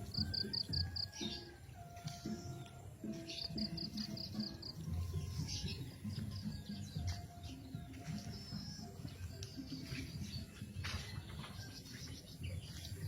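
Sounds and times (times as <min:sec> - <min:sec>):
background music with held tones: 0:00.0 - 0:13.0.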